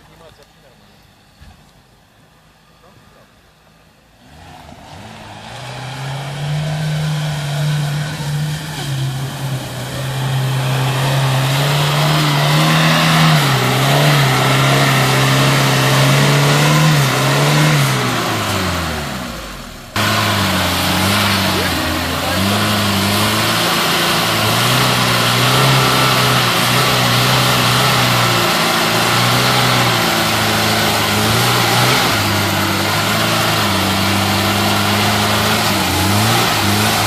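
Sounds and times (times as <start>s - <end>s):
car engine working hard: 0.0s - 37.0s.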